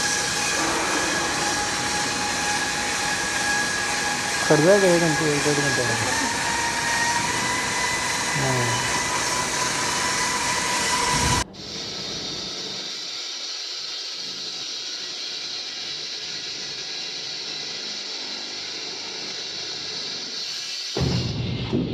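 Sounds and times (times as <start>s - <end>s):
wire saw cutting concrete: 0.0s - 11.9s, 12.8s - 21.0s
loud machine noise: 0.0s - 21.9s.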